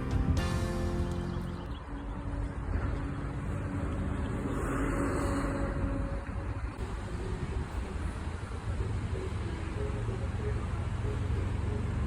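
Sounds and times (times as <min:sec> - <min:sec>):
car engines and traffic rumble: 0:00.0 - 0:12.0.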